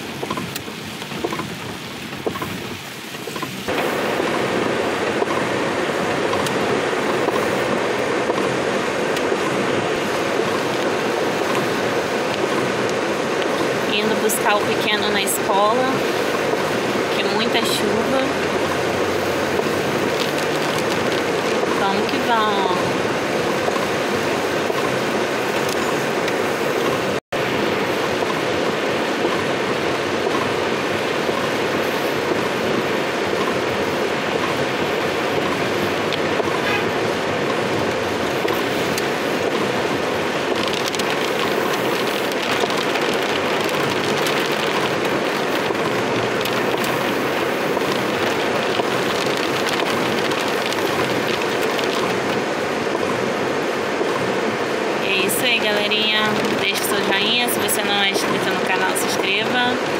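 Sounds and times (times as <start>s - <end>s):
car running on wet street: 0.0s - 59.9s
heavy rain on car roof: 0.0s - 59.9s.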